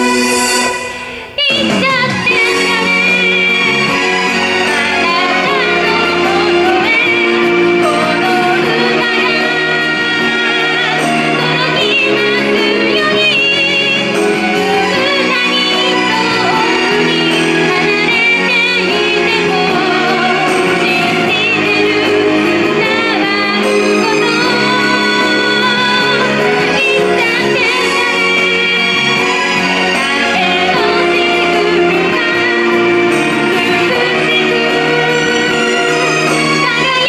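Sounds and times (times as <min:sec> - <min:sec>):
pop music accompaniment: 0:00.0 - 0:37.0
woman singing: 0:01.3 - 0:37.0.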